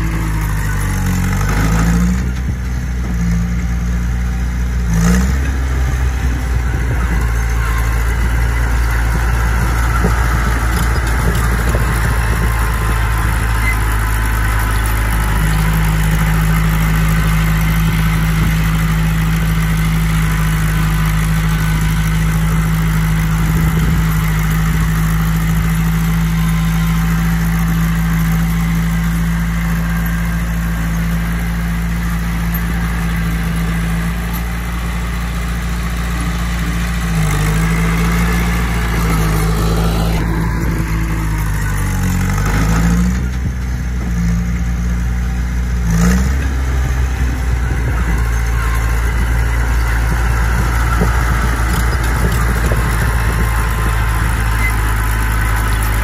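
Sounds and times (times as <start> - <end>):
bulldozer engine running: 0.0 - 56.0.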